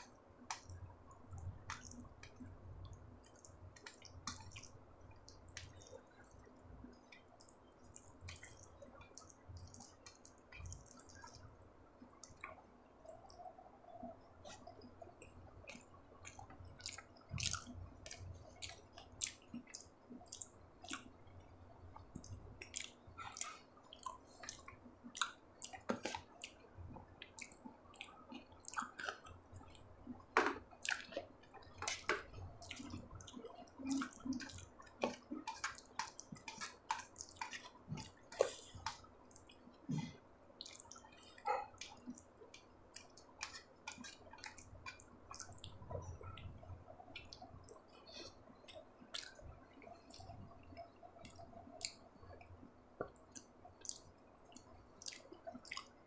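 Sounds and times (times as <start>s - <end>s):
fingers squishing food: 0.0s - 11.5s, 12.1s - 56.0s
wet chewing with mouth clicks: 0.0s - 11.5s, 12.1s - 56.0s.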